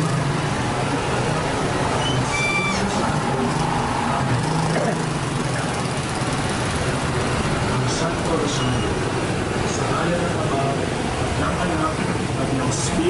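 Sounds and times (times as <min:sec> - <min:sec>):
small engines running: 0:00.0 - 0:10.8
street noise: 0:00.0 - 0:13.0.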